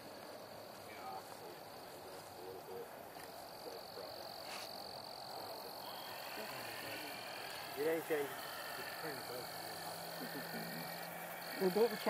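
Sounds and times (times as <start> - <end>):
frogs calling: 0.0 - 12.0
steady high-pitched tone: 0.8 - 12.0.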